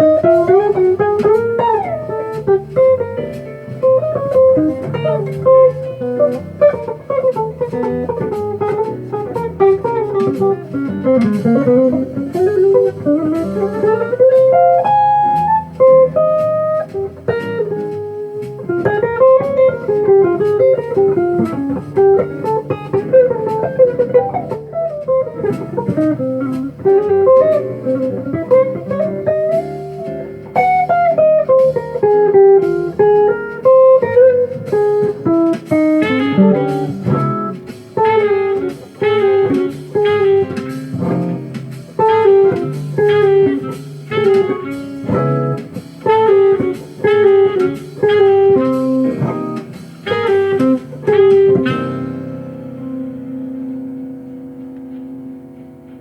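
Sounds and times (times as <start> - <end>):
jazz guitar: 0.0 - 56.0
low bass notes: 0.0 - 56.0.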